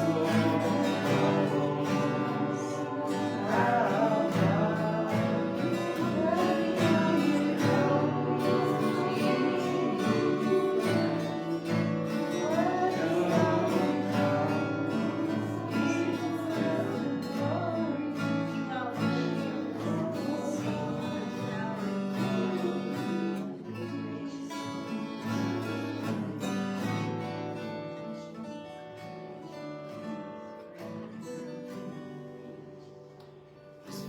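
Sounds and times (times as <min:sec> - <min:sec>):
worship music with acoustic guitar: 0:00.0 - 0:34.0.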